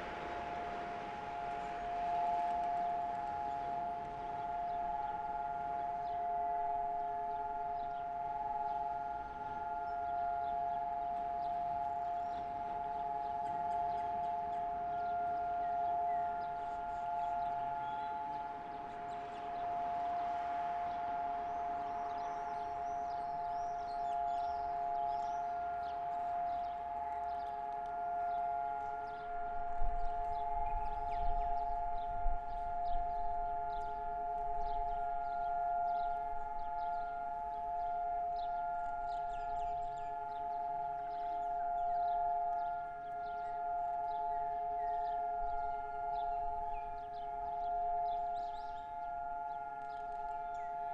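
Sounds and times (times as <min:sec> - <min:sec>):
civil defense siren steady chord: 0:00.0 - 0:50.9.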